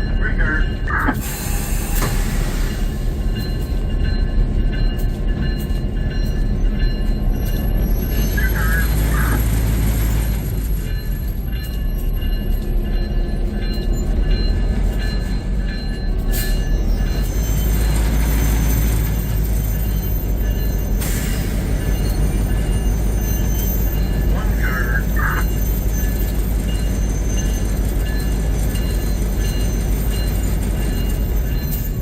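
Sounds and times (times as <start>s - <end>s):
diesel locomotive rumbling: 0.0s - 32.0s.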